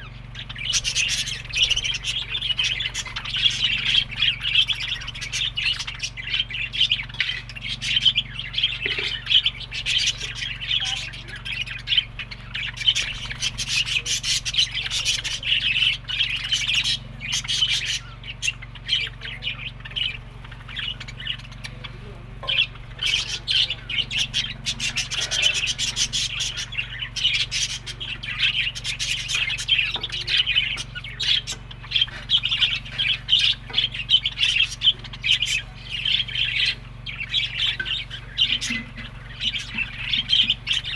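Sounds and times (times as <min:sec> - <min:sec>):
bird squawk: 0:00.0 - 0:40.9
budgerigars chattering and chirping: 0:00.0 - 0:40.9.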